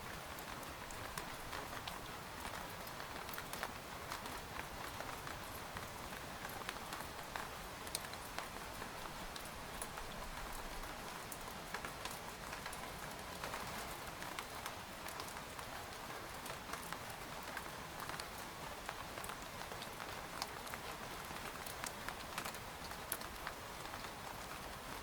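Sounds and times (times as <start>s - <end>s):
rain on a tent: 0.0s - 25.0s.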